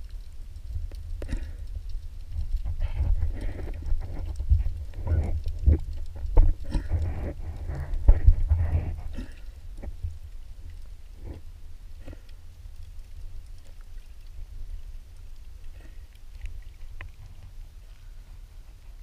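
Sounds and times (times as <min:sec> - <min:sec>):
faint clicks and knocks: 0:00.0 - 0:19.0
muffled underwater water movement: 0:00.0 - 0:19.0.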